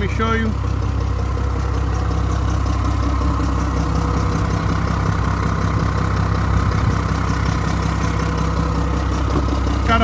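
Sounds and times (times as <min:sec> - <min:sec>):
diesel truck engine idling roughly: 0:00.0 - 0:10.0.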